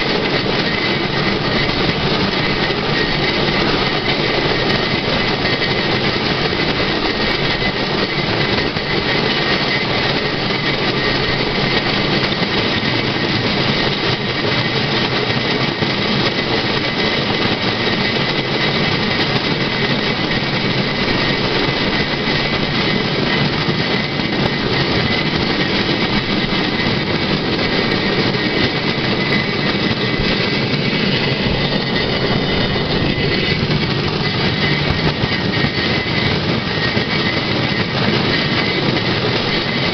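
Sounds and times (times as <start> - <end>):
rail trolley wheels rolling on rails: 0.0 - 39.9.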